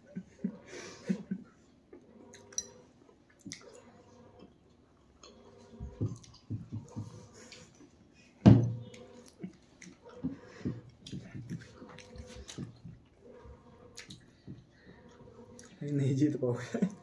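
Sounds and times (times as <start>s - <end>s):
people chewing: 0.0s - 8.1s, 8.8s - 15.8s.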